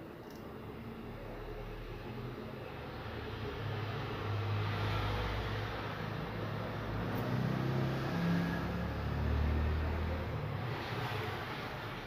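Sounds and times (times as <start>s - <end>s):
vehicle engine drone: 0.8s - 12.0s.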